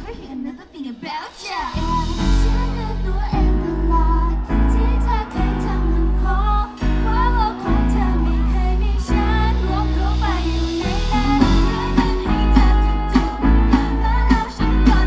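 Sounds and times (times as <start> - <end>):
female singing: 0.0 - 15.0
heavy bass line: 1.8 - 15.0.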